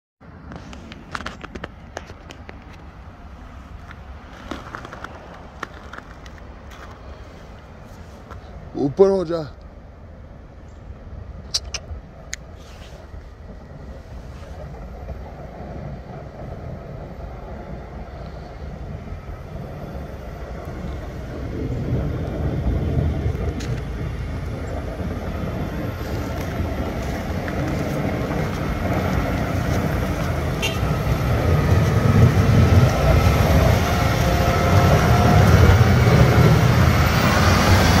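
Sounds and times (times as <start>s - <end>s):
snow plow engine running: 0.5s - 8.5s, 13.0s - 38.0s
faint whine: 5.1s - 38.0s.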